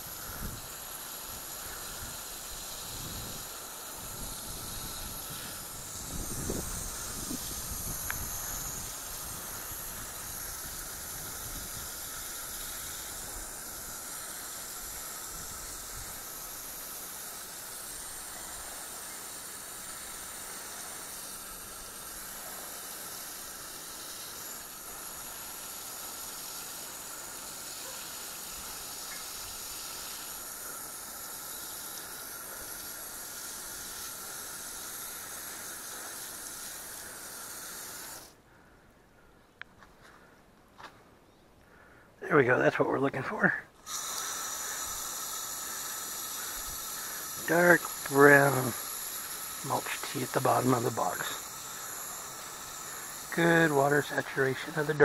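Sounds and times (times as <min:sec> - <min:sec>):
water running onto soil: 0:00.0 - 0:38.3, 0:43.8 - 0:55.0.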